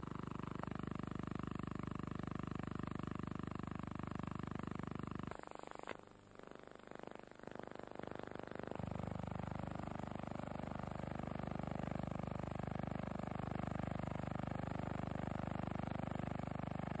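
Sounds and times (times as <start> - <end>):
film projector hum and flutter: 0.0 - 17.0.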